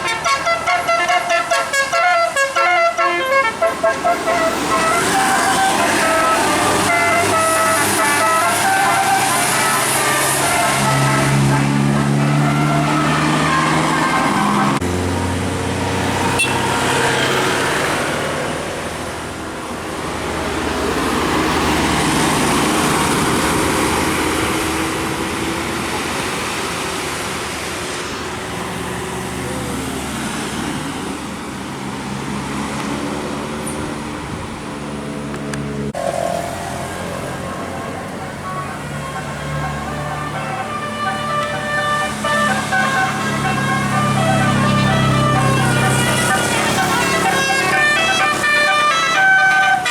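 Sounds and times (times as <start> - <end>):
vehicles passing on road: 0.0 - 49.9.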